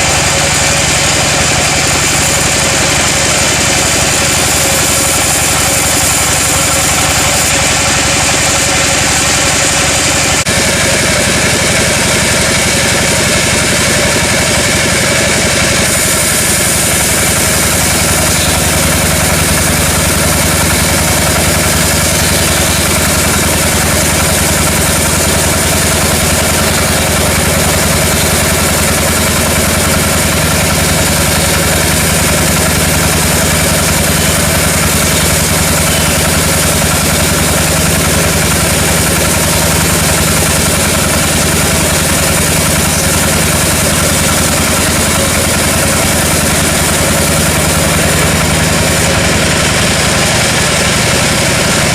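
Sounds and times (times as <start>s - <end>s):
sawmill machinery running: 0.0s - 51.9s.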